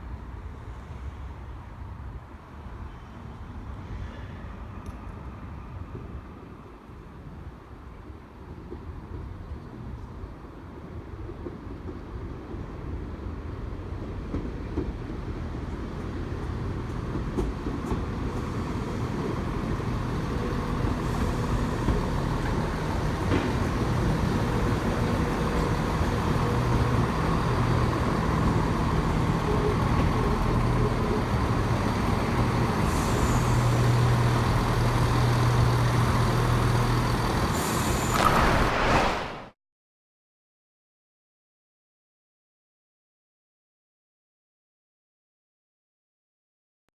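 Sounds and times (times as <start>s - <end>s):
diesel train approaching: 0.4s - 38.2s.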